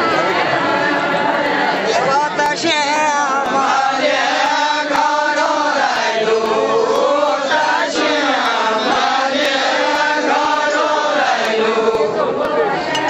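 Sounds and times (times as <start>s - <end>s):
men singing in unison: 1.2s - 13.0s.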